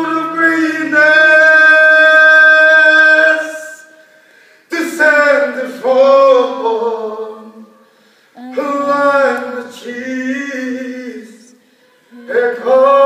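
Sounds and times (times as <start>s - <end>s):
man singing unaccompanied: 0.0s - 3.9s, 4.7s - 7.8s, 8.4s - 13.0s.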